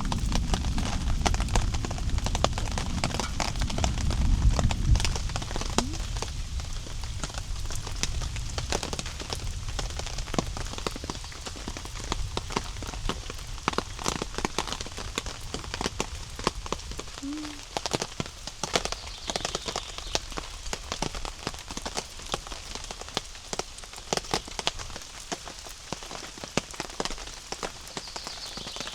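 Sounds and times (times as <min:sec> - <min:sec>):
low rumble of rain: 0:00.0 - 0:28.9
raindrops hitting shelter: 0:00.0 - 0:28.9.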